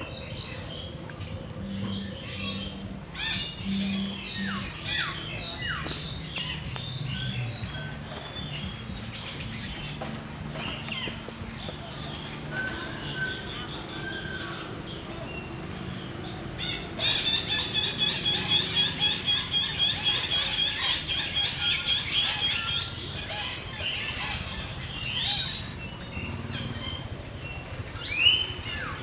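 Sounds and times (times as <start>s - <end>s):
bird trilling: 0.0s - 15.6s, 16.6s - 27.2s.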